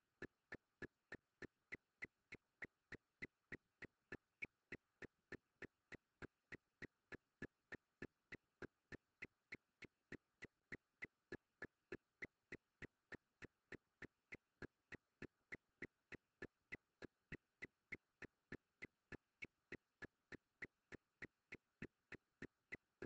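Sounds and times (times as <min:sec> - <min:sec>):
faint regular ticking: 0:00.2 - 0:23.0.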